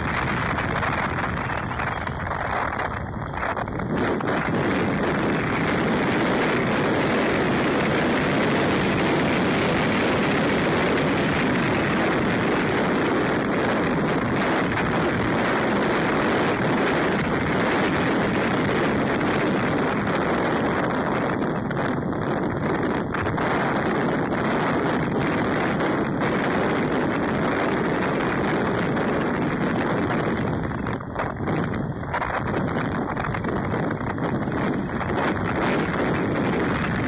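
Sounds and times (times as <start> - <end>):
tyre and road rumble: 0.0 - 37.0
wind on microphone: 0.0 - 37.0.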